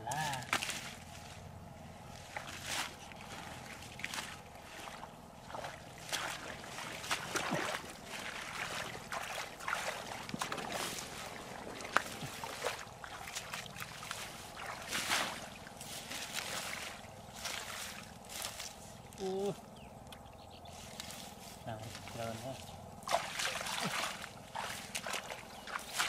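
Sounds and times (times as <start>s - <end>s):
wet mud squelching and splashing: 0.0s - 1.5s, 2.1s - 19.4s, 20.8s - 26.0s
leafy plants rustling: 0.0s - 26.0s.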